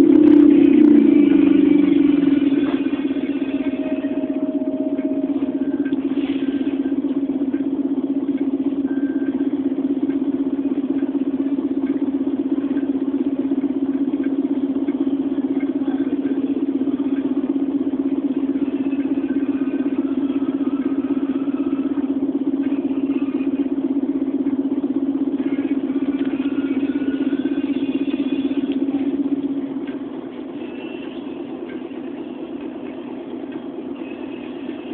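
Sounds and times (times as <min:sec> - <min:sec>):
bus diesel engine idling: 0:00.0 - 0:34.9.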